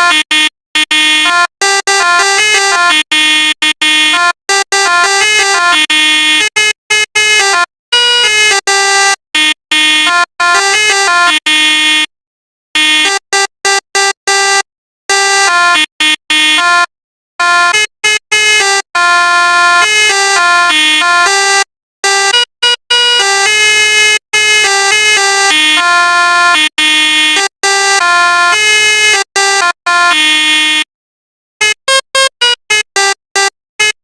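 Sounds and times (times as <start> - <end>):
multi-tone bus horn melody: 0.0 - 12.1, 12.7 - 30.9, 31.6 - 34.0.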